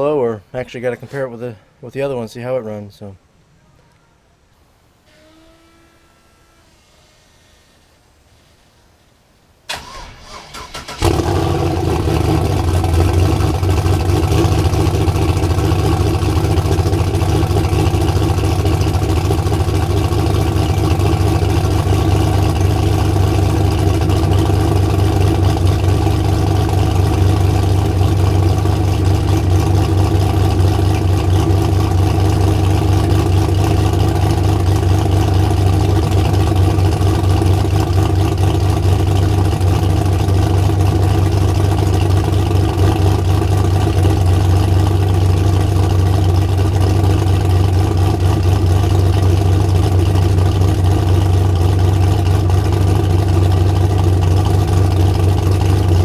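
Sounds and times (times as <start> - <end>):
truck engine idling: 9.7 - 56.0.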